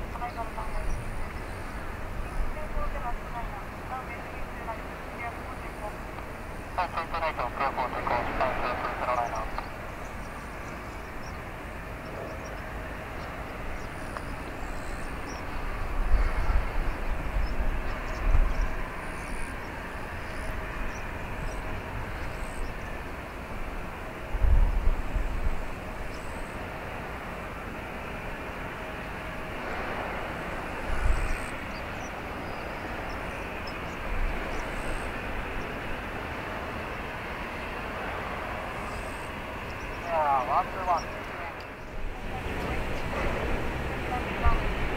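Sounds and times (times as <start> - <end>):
airliner taxiing: 0.0 - 44.9.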